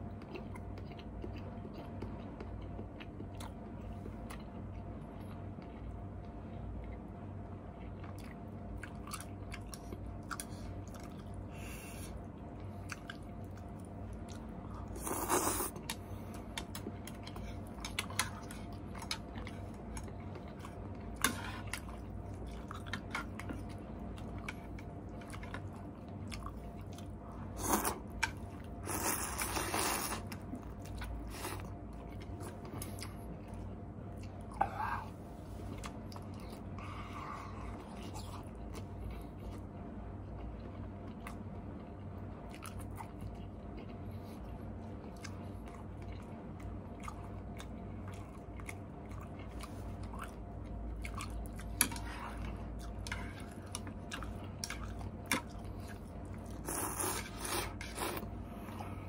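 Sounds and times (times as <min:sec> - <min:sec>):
chewing noodles with wet clicks: 0:00.0 - 0:34.6, 0:35.6 - 0:58.8
steady low hum: 0:00.0 - 0:59.0.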